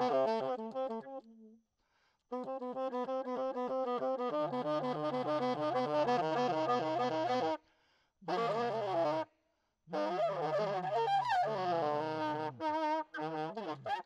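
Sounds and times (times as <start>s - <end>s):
saxophone improvising: 0.0s - 1.4s, 2.3s - 7.6s, 8.3s - 9.3s, 9.9s - 14.0s.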